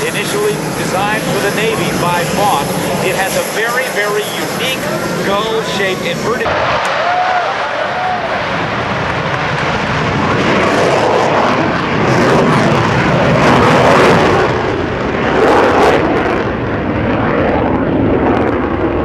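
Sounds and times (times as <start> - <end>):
propeller plane engine: 0.0 - 19.0.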